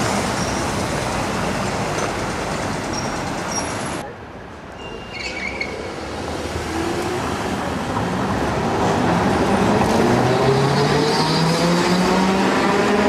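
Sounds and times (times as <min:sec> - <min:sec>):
tram wheels rumbling on rails: 0:00.0 - 0:04.1, 0:05.1 - 0:13.0.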